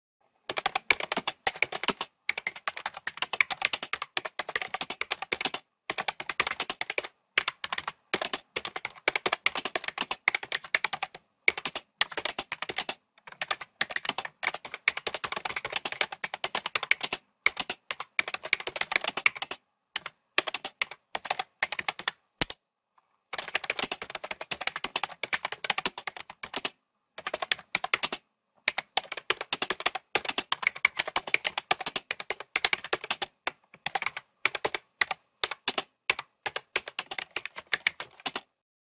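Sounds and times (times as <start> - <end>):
computer keyboard typing: 0.5 - 22.6, 23.3 - 38.6.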